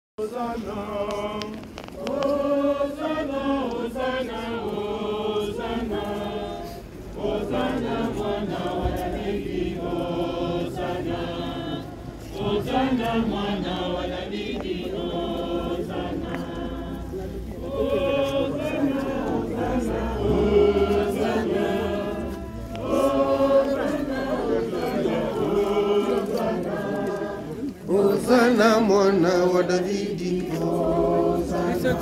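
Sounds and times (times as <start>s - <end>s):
congregation singing a hymn: 0.2s - 32.0s.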